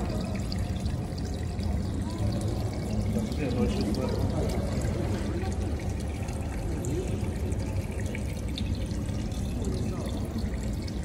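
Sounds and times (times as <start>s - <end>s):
water rushing and trickling: 0.0s - 11.0s.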